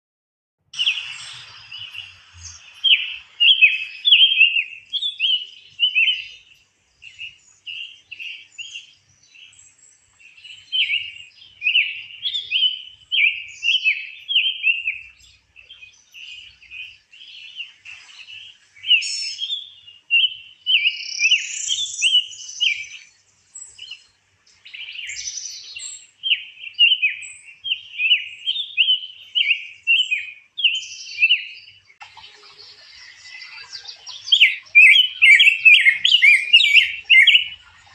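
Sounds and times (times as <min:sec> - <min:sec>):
songbirds singing: 0:00.6 - 0:37.9.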